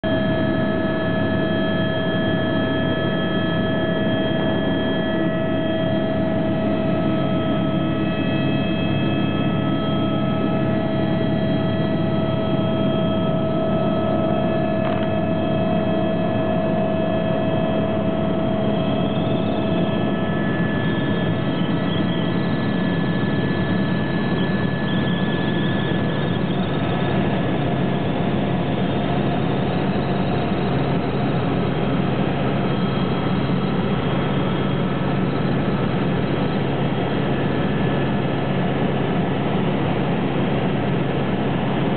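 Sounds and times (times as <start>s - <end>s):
helicopter engine and rotors droning: 0.0s - 41.9s
whining tones: 0.1s - 37.8s.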